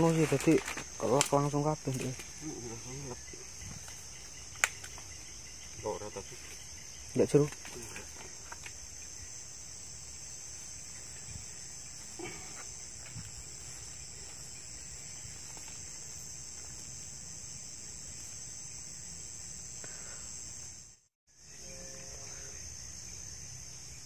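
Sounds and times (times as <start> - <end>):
crickets chirping chorus: 0.0 - 24.0.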